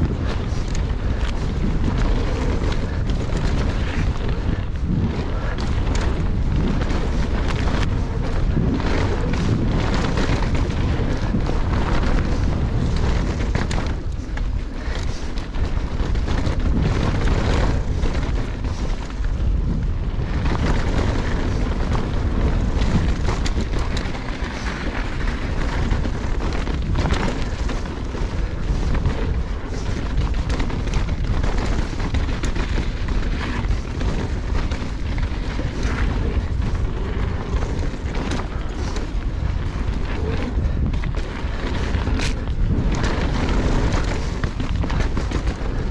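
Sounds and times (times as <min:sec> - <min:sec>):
bike clicks and rattles: 0:00.0 - 0:45.9
tyres rumbling on rough trail: 0:00.0 - 0:45.9
wind on microphone: 0:00.0 - 0:45.9.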